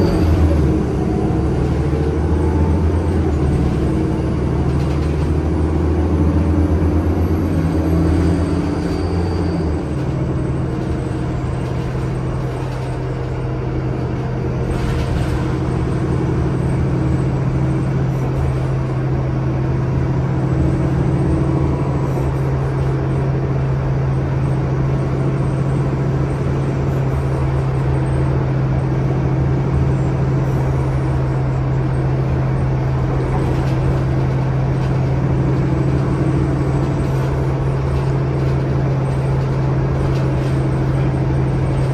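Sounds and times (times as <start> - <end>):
bus engine running: 0.0 - 41.9.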